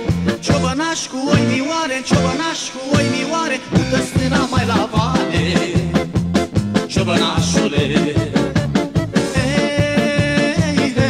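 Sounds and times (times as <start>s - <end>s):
instrumental folk dance music: 0.0s - 11.0s.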